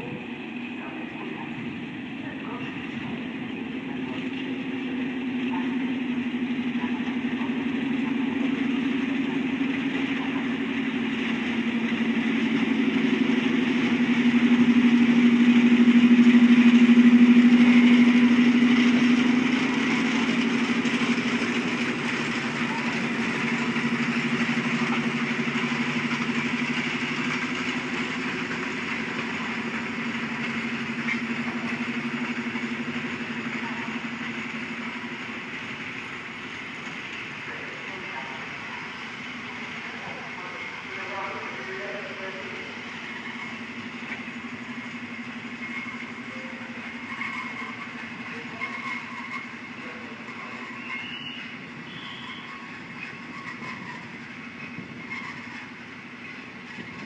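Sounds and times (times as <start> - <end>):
diesel locomotive engine running: 0.0 - 57.0
train wheels rolling on rails: 0.0 - 57.0.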